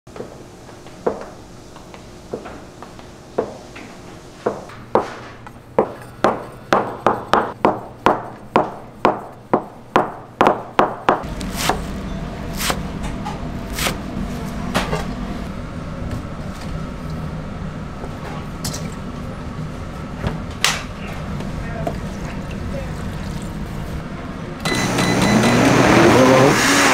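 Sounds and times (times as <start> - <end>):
steady low hum: 0.1 - 24.8.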